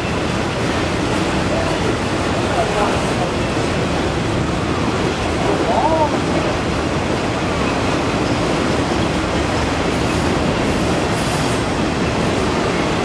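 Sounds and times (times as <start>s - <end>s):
steel train wheels on rails: 0.0s - 13.0s.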